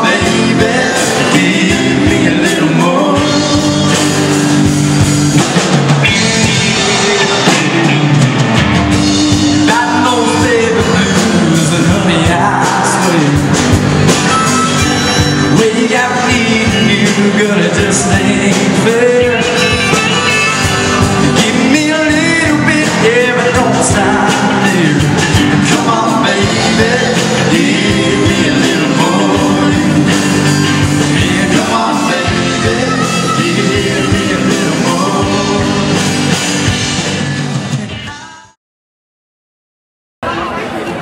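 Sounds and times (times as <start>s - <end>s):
person singing: 0.0s - 5.0s, 6.0s - 36.4s, 37.9s - 38.6s
country band playing: 0.0s - 38.5s.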